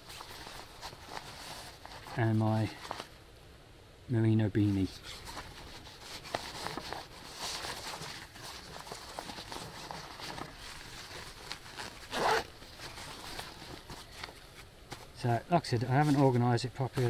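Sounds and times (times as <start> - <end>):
fabric rustling and scuffing: 0.0 - 3.2, 4.7 - 17.0.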